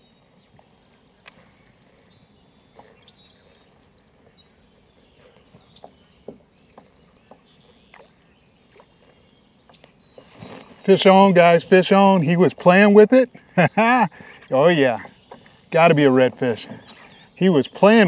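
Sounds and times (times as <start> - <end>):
faint insect tones: 0.0 - 18.0.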